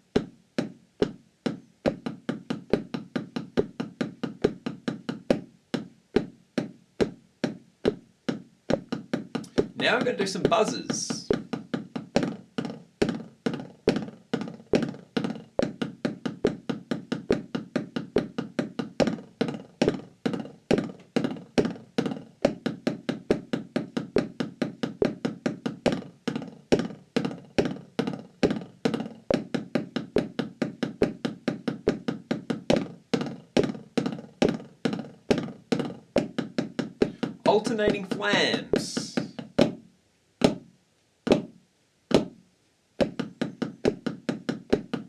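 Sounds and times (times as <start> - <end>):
drumsticks on rubber practice pad: 0.1 - 40.7, 43.0 - 45.0.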